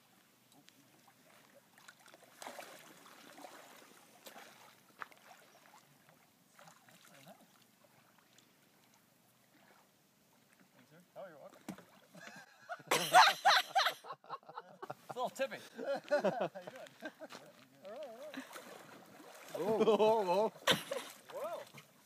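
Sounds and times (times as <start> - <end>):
lake water splashing and trickling: 0.0 - 12.6, 14.9 - 22.0.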